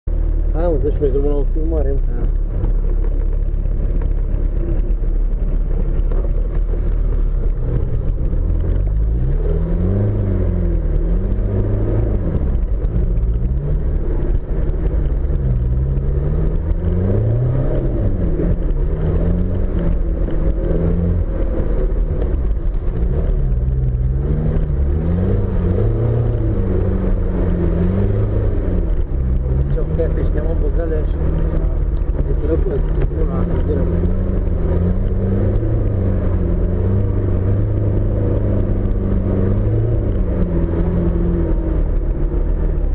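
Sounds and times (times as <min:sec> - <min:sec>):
off-road vehicle engine revving: 0:00.1 - 0:42.9.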